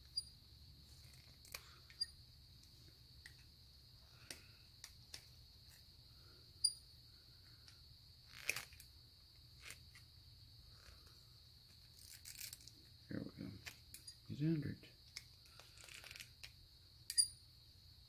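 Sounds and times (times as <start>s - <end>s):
insect chirring: 0.0s - 18.0s.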